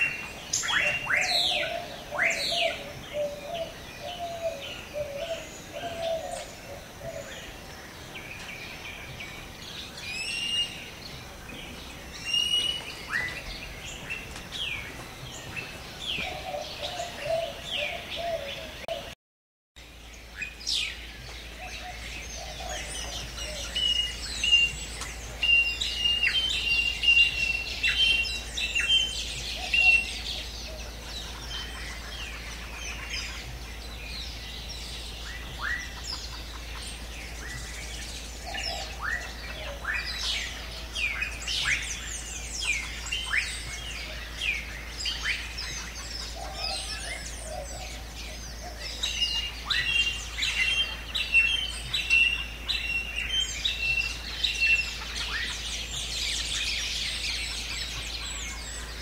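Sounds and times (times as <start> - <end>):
bird whistling a steady note: 0.0 - 7.6, 12.1 - 14.8, 21.6 - 59.0
high hiss of forest background: 0.0 - 19.2, 19.8 - 59.0.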